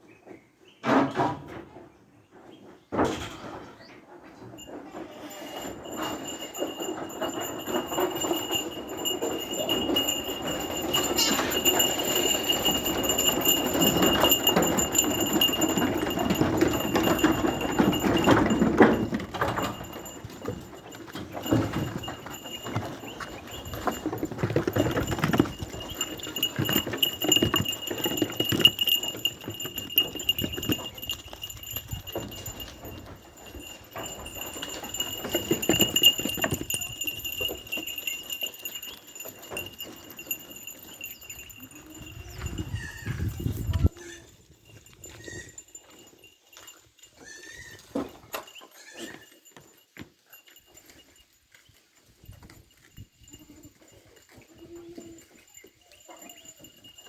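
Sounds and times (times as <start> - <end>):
goat hooves clattering: 4.1 - 57.0.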